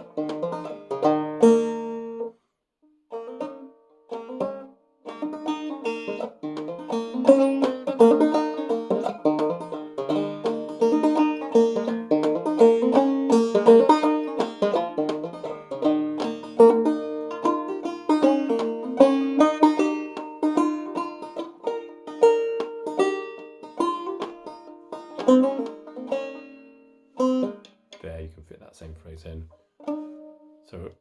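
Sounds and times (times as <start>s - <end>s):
banjo plucked melody: 0.0s - 28.4s, 29.5s - 30.9s.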